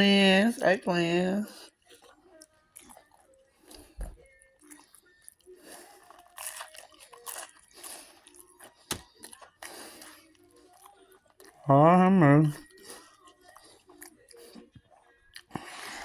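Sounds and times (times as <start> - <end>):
chewing fried chicken: 1.4 - 16.0.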